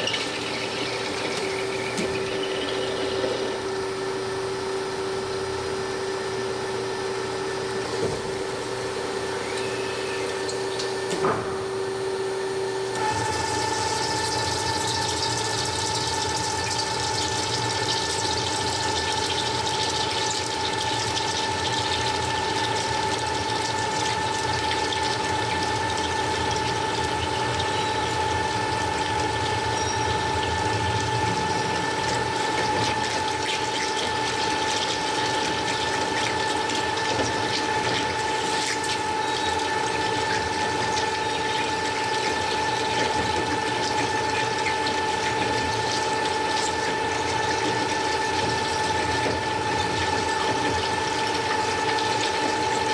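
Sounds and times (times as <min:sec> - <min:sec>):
cnc cutting machine humming: 0:00.0 - 0:52.9.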